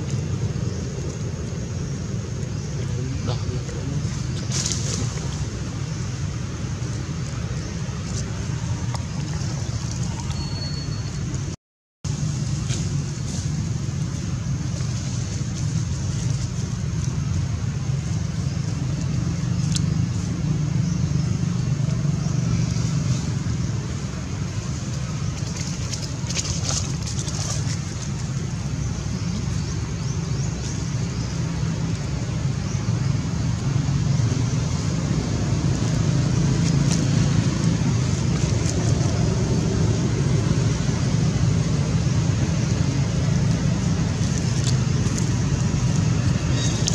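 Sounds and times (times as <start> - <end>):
low outdoor rumble: 0.0 - 46.9.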